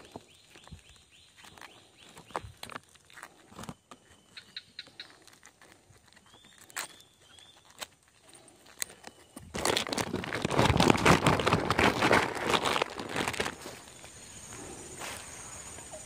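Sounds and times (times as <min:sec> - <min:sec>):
plastic sack rustling and crinkling: 0:00.0 - 0:04.2, 0:05.0 - 0:15.6.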